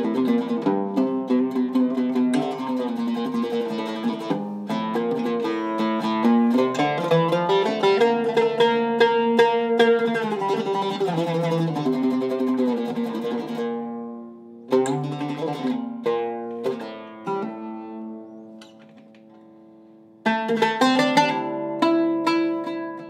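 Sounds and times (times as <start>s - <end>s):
oud plucked notes: 0.0s - 23.0s.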